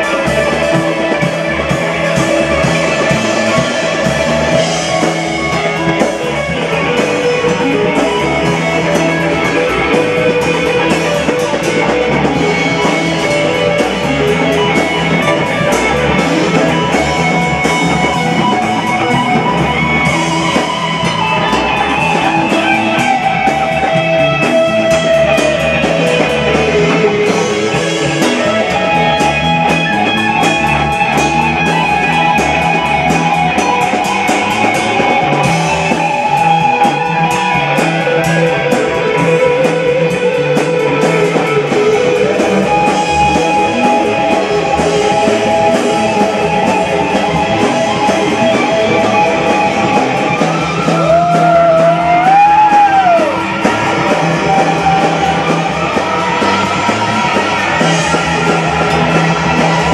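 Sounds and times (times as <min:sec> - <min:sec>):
pitch-bending guitar notes: 0:00.0 - 0:59.9
rock band playing: 0:00.0 - 0:59.9.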